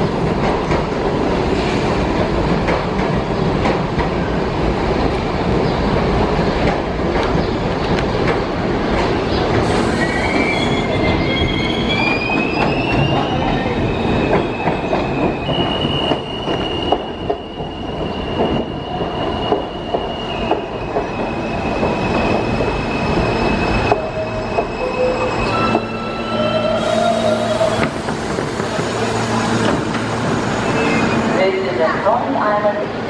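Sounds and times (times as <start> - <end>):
subway train rumble: 0.0 - 33.0.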